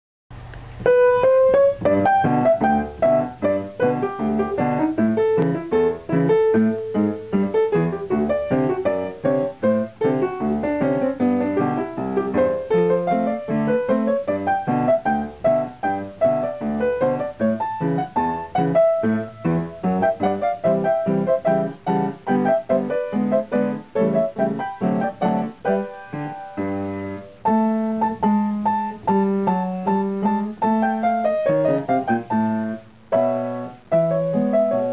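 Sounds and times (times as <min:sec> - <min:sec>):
background piano music: 0:00.8 - 0:34.9.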